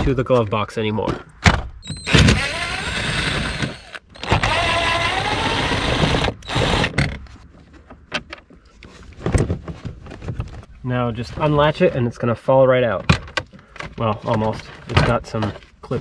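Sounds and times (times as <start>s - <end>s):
plastic scraping and squeaking: 1.8s - 11.8s, 13.0s - 16.0s.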